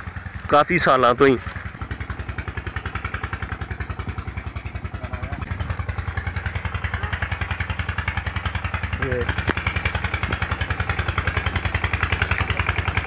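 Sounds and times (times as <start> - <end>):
small engine putting: 0.0 - 13.0.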